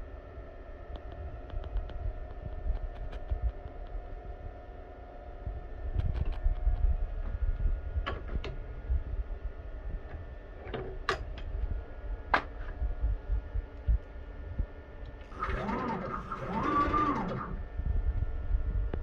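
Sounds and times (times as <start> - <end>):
electrical hum and rumble: 0.0 - 19.0.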